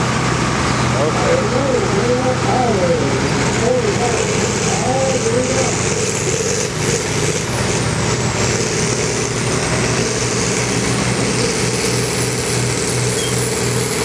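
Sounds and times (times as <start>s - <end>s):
tractor diesel engine drone: 0.0s - 14.0s.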